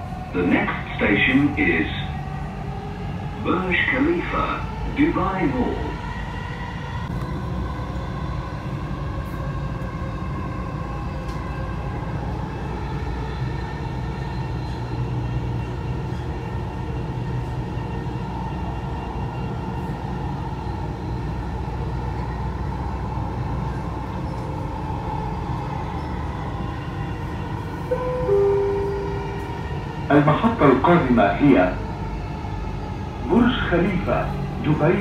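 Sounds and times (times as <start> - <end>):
train high whine: 0.0 - 35.0
train low rumble: 0.0 - 35.0.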